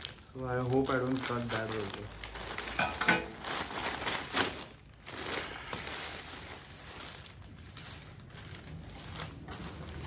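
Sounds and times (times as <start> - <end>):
plastic mailer bag rustling: 0.0 - 10.0.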